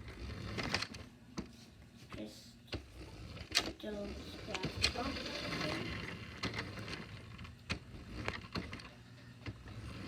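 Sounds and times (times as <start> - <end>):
toy car electric motor whirring: 0.0 - 1.1, 2.8 - 10.0.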